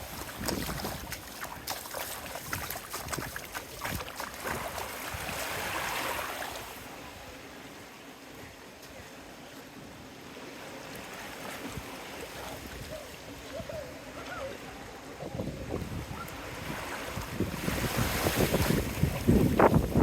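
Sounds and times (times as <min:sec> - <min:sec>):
small waves washing on sand: 0:00.0 - 0:20.0.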